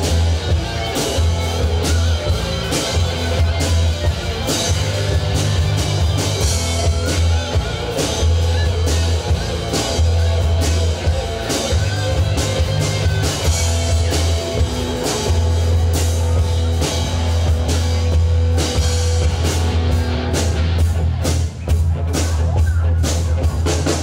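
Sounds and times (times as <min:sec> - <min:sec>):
drum kit: 0:00.0 - 0:24.0
electric guitars: 0:00.0 - 0:24.0.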